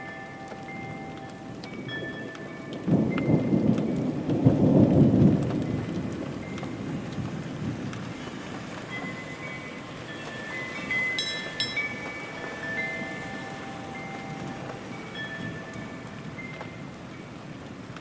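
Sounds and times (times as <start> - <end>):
rain falling: 0.0 - 18.0
thunder rumbling: 0.6 - 18.0.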